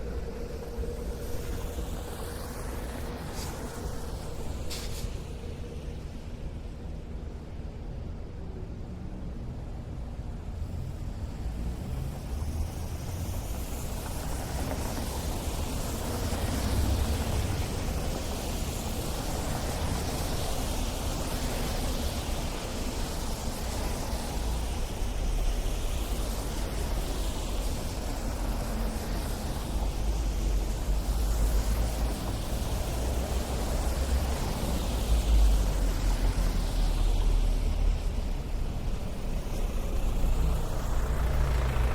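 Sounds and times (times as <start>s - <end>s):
low rumble of engines: 0.0s - 41.9s
tyres hissing on road: 0.0s - 41.9s.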